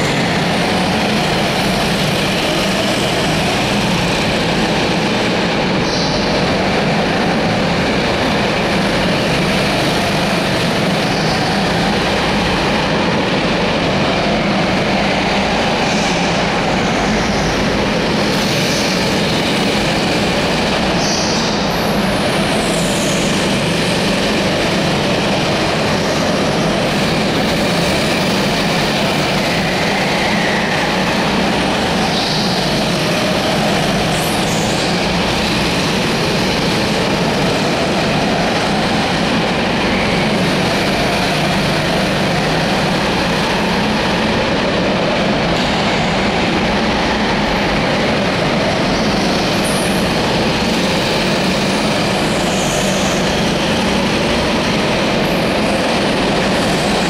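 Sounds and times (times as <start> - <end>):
go-kart engines droning: 0.0 - 57.0.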